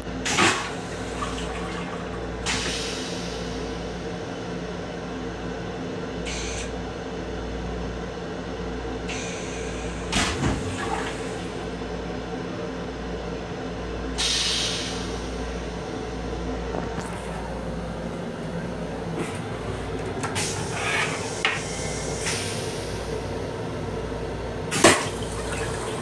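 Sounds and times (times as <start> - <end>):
electric railcar hum: 0.0 - 26.0.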